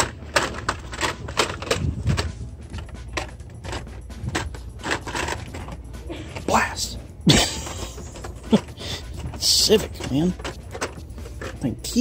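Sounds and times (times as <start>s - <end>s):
plastic packs clicking and rattling: 0.0s - 12.0s.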